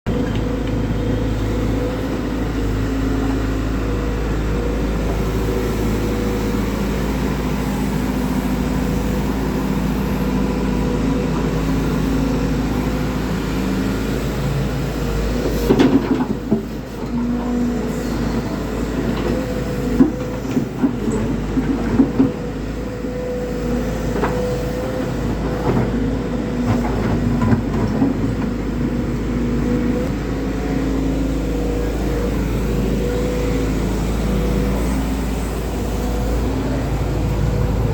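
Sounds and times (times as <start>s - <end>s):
heavy diesel engine running: 0.1s - 37.9s.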